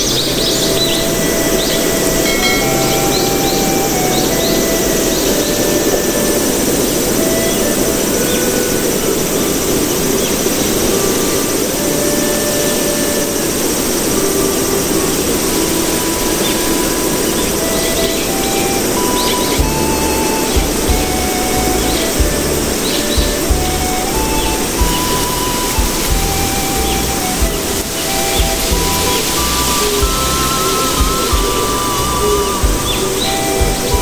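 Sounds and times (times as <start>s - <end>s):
loud steady rushing noise: 0.0s - 34.0s.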